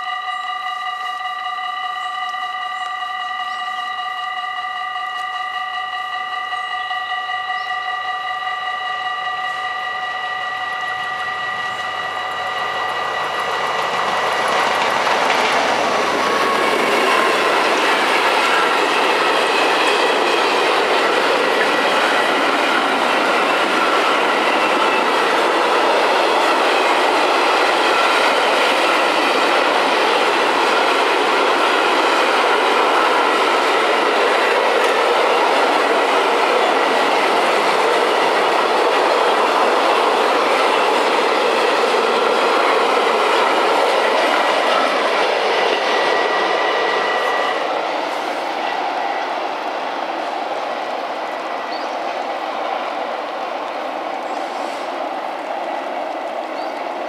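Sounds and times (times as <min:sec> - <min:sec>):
train wheels rumbling on rails: 0:00.0 - 0:57.0
clickety-clack over rail joints: 0:10.8 - 0:57.0.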